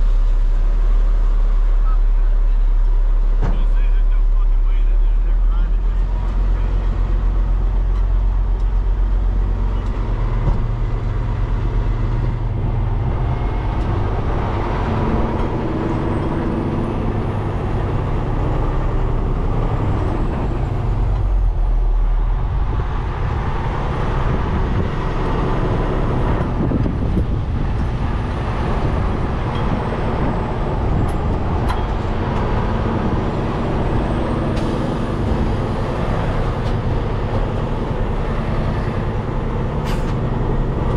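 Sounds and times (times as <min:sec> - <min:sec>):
road noise: 0:00.0 - 0:40.9
truck diesel engine running: 0:00.0 - 0:40.9.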